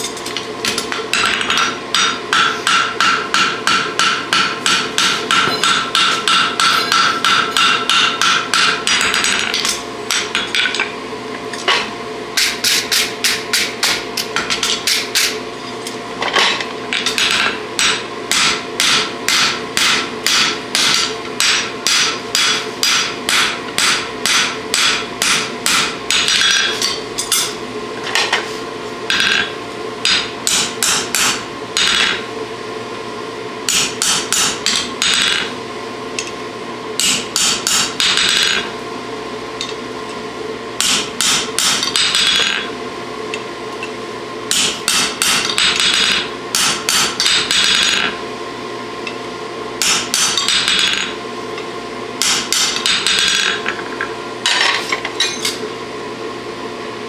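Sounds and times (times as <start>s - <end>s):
hammer striking horseshoe on anvil: 0.0s - 28.4s, 29.1s - 32.2s, 33.7s - 35.5s, 36.2s - 36.4s, 37.0s - 38.7s, 40.8s - 42.7s, 44.5s - 48.2s, 49.8s - 51.2s, 52.2s - 55.6s.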